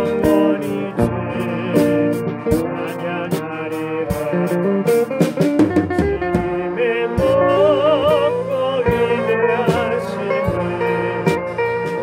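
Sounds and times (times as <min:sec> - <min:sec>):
drum beat: 0:00.0 - 0:12.0
keyboard: 0:00.0 - 0:12.0.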